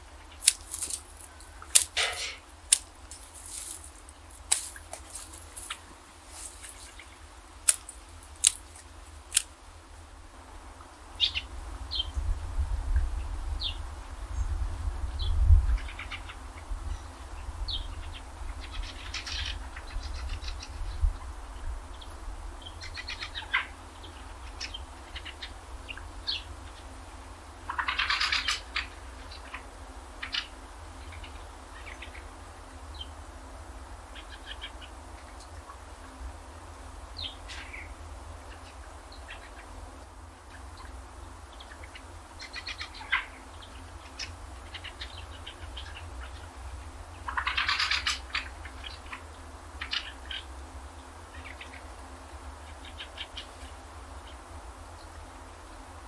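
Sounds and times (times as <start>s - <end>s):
small birds chirping: 0.0s - 9.6s, 11.0s - 12.2s, 13.2s - 56.0s.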